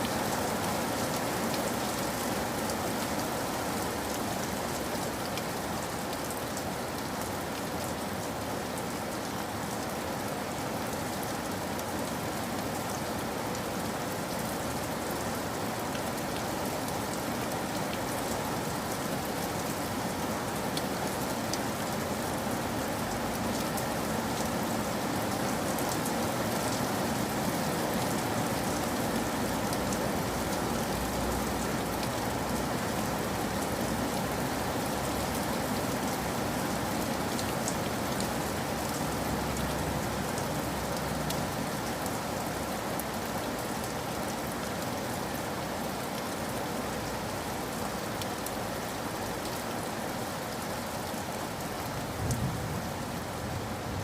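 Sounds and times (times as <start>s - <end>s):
raindrops ticking on surfaces: 0.0s - 54.0s
steady rain hiss: 0.0s - 54.0s.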